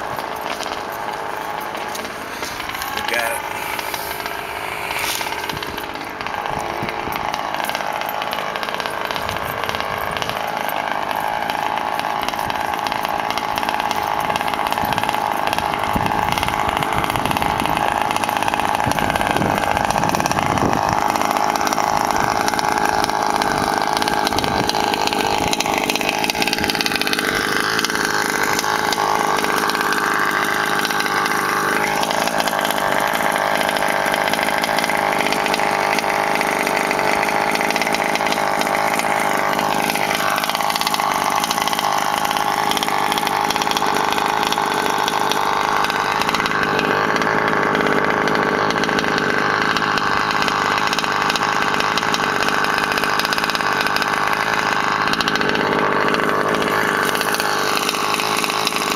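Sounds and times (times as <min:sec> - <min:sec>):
small two-stroke engine revving: 0:00.0 - 0:58.9.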